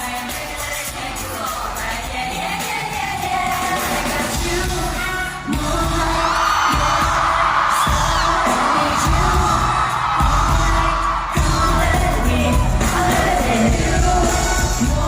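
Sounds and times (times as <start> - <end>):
pop song with singing: 0.0 - 15.0.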